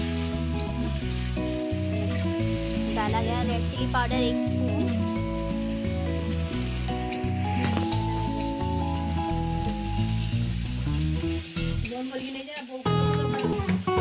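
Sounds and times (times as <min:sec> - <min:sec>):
background music: 0:00.0 - 0:11.9, 0:12.9 - 0:14.0
masala sizzling in a pan: 0:00.0 - 0:14.0.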